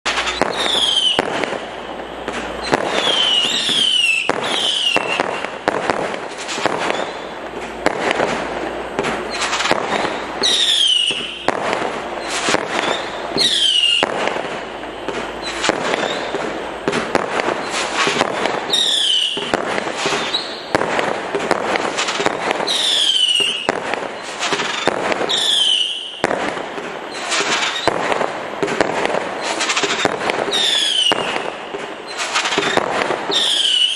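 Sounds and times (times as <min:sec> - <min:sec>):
fireworks thumps bursts and crackle: 0:00.0 - 0:33.9
whistling firework tails: 0:00.1 - 0:33.9.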